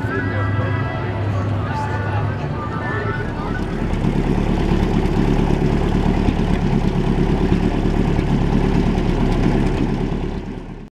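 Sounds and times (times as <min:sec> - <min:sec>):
boat engine droning: 0:00.0 - 0:10.9.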